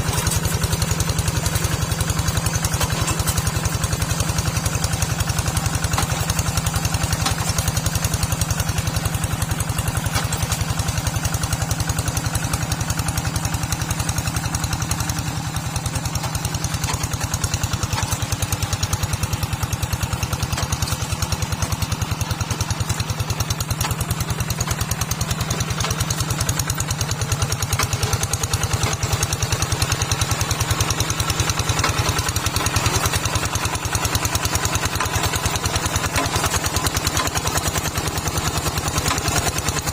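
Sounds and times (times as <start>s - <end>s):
small tractor engine thumping: 0.0s - 39.9s.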